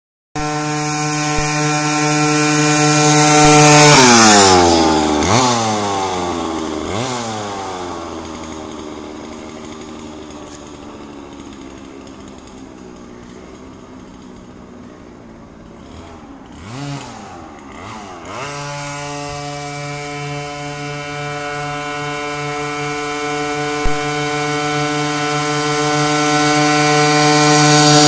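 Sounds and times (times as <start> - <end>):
two-stroke engine passing by: 0.4 - 28.0.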